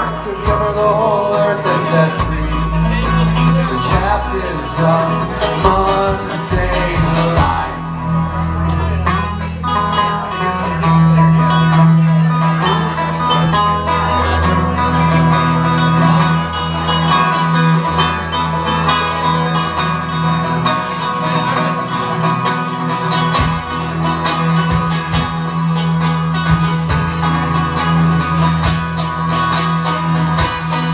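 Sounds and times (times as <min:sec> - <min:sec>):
banjo: 0:00.0 - 0:30.9
bass: 0:00.0 - 0:30.9
strummed guitars: 0:00.0 - 0:30.9.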